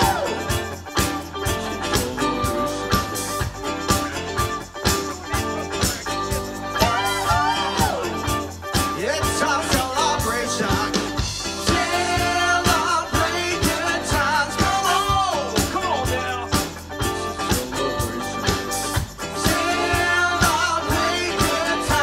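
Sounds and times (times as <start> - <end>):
person singing: 0.0 - 0.7, 1.6 - 3.4, 5.0 - 8.4, 9.0 - 22.0
live rock band playing: 0.0 - 22.0.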